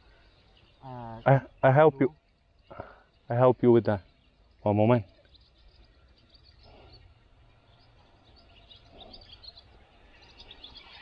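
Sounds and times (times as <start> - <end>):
birds chirping faintly: 0.0 - 11.0
low steady background noise: 0.0 - 11.0.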